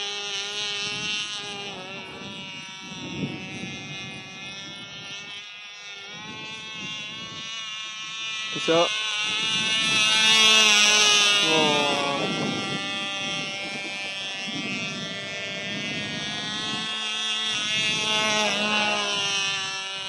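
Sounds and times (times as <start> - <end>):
model plane engine whine: 0.0 - 20.0.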